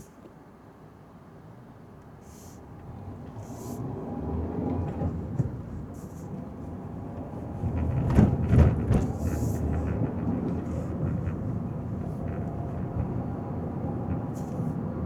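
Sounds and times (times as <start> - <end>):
car engine and road rumble: 1.9 - 15.0.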